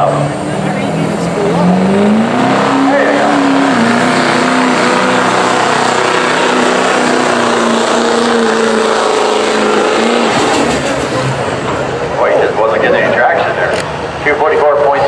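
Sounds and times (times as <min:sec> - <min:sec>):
diesel engine running hard: 0:00.0 - 0:15.0.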